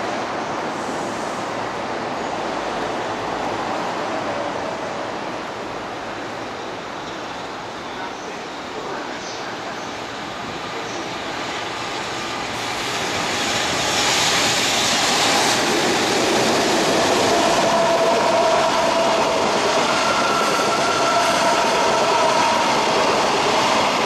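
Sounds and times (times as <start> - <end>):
freight train passing: 0.0 - 24.0
train wheels on rails: 0.0 - 24.0.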